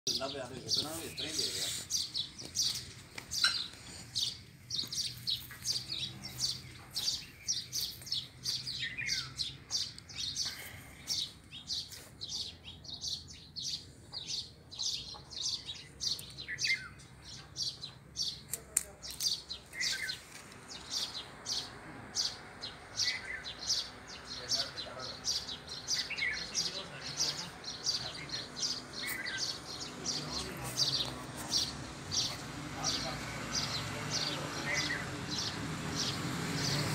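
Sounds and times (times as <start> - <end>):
lower falling bird calls: 0.1 - 36.9
small birds chirping rapidly: 0.1 - 36.9.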